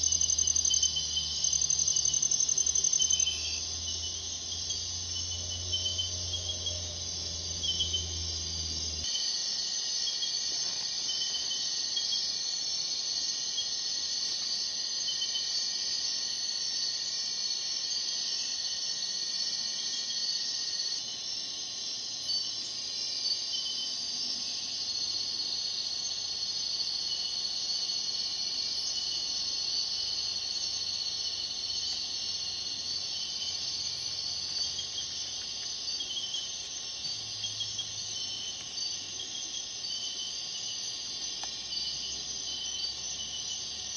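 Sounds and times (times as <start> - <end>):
faint steady tone: 0.0 - 43.9
night insects buzzing and trilling: 0.0 - 43.9.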